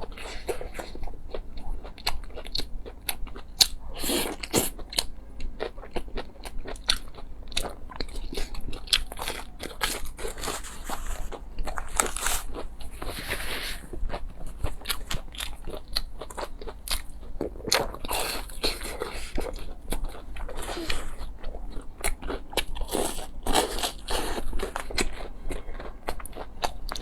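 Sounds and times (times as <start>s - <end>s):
crunchy bites and chewing: 0.0s - 27.0s.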